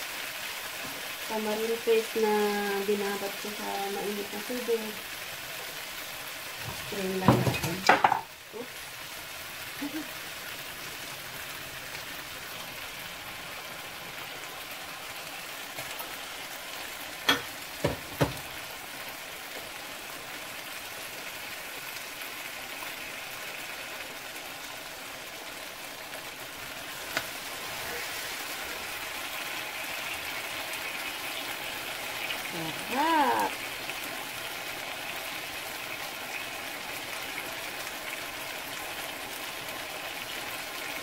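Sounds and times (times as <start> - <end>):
curry sizzling in a pan: 0.0 - 41.0.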